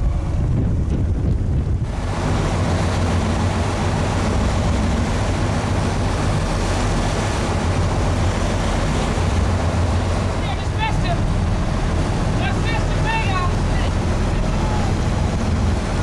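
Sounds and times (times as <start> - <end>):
boat engine running: 0.0 - 16.0
rush of wind and water: 0.0 - 16.0.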